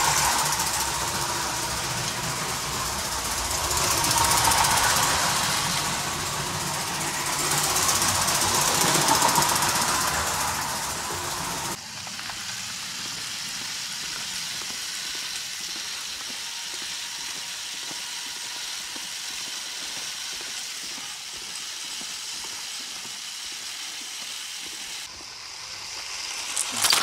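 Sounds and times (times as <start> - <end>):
toy train motor whining: 0.0 - 27.0
wheels ticking on plastic track: 0.0 - 27.0.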